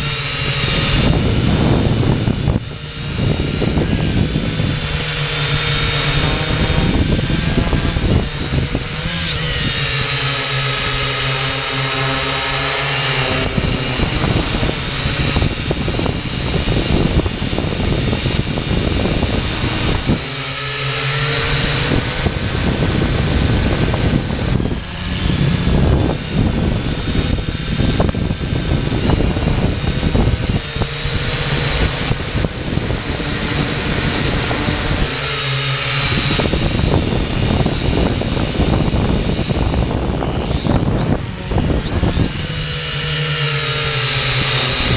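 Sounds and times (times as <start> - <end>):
drone motors whining: 0.0 - 44.9
wind buffeting microphone: 0.0 - 44.9.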